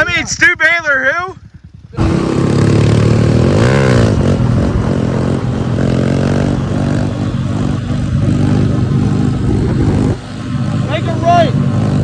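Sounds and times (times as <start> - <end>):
pit bike engine revving: 2.0 - 12.0.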